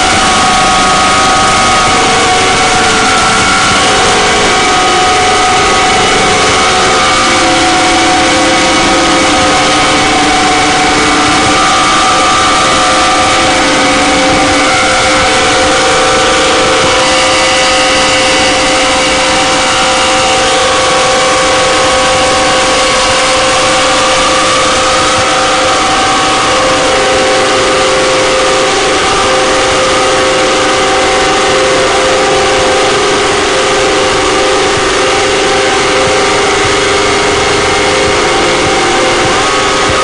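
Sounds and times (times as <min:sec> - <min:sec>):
droning tones: 0:00.0 - 0:40.0
wall of static noise: 0:00.0 - 0:40.0.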